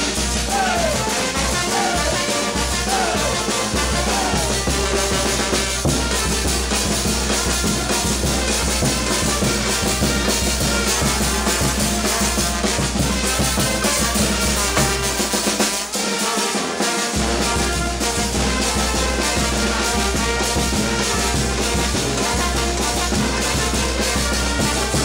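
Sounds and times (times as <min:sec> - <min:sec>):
drum kit playing driving rhythm: 0:00.0 - 0:25.0
live band music: 0:00.0 - 0:25.0.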